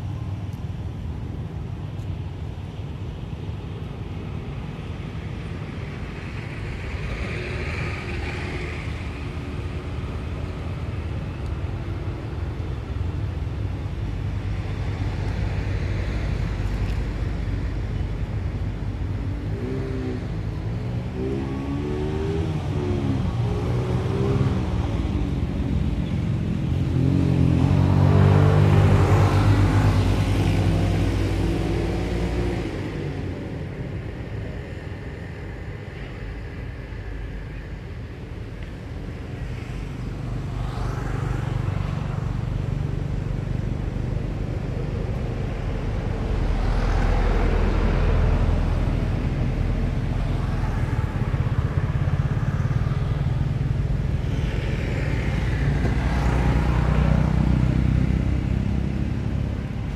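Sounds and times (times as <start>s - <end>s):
vehicles passing on road: 0.0s - 59.9s.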